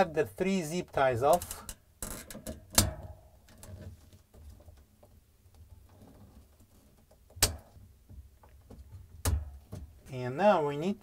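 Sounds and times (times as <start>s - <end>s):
rustling of wires: 1.2s - 10.2s.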